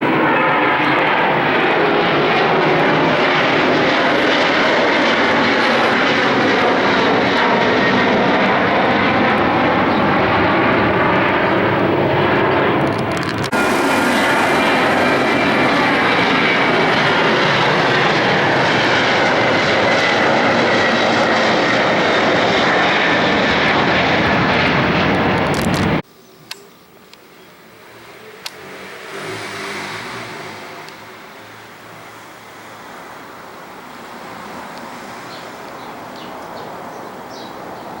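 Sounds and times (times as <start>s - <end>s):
jet engines running: 0.0s - 26.0s, 27.7s - 38.0s.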